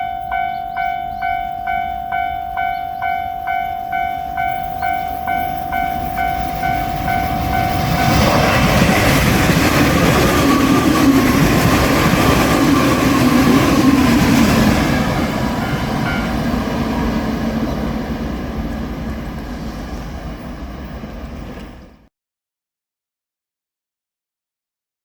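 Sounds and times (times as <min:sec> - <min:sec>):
electric train running past: 0:00.0 - 0:22.1.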